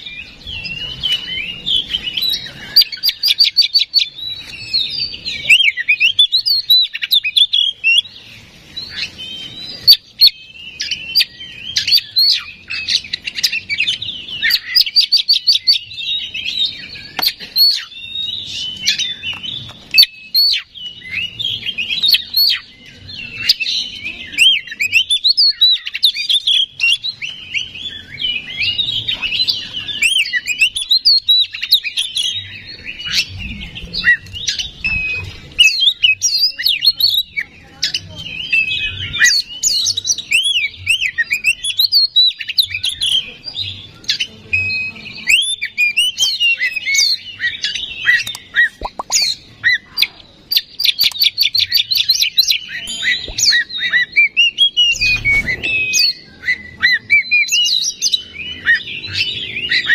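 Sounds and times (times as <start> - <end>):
bird singing whistled song: 0.0 - 59.9.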